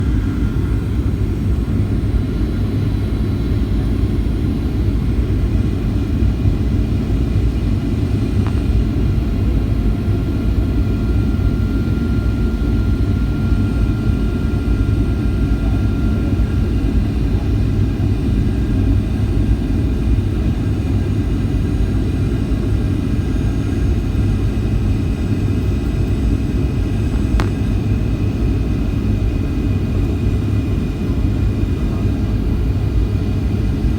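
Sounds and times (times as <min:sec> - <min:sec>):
aircraft cabin engine rumble: 0:00.0 - 0:33.9.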